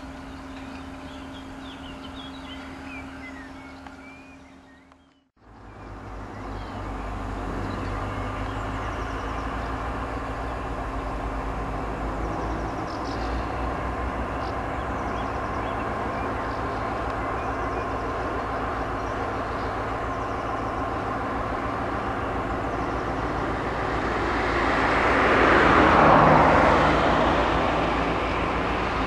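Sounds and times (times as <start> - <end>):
diesel locomotive engine rumble: 0.0 - 29.0.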